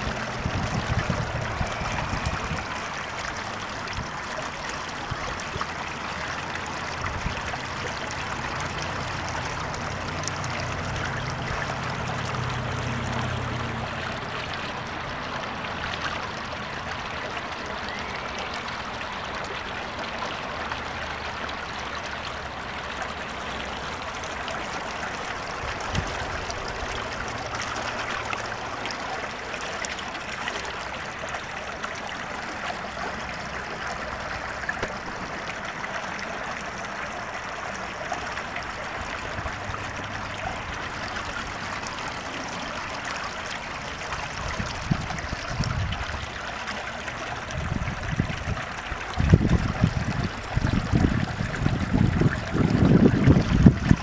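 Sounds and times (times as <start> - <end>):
water running down rocky creek: 0.0 - 54.0.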